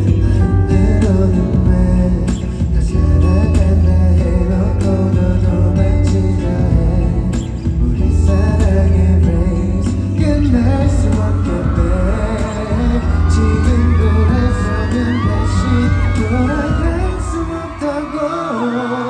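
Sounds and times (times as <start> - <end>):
live band with heavy bass: 0.0 - 19.0
man singing pop ballad: 0.0 - 19.0.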